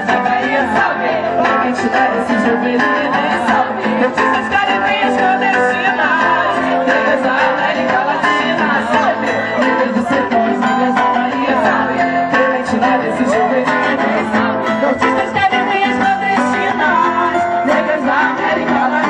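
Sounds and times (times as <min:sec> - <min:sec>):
guitar playing: 0:00.0 - 0:19.0
people singing: 0:00.0 - 0:19.0.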